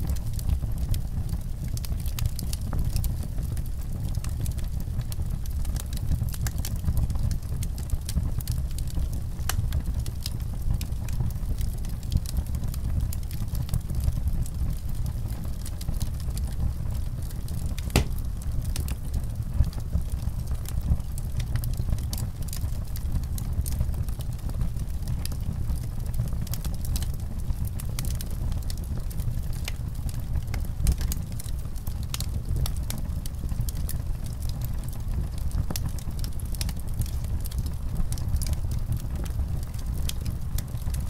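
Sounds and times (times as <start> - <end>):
fire burning with low rumble: 0.0 - 41.0
fire crackling and popping: 0.0 - 41.0.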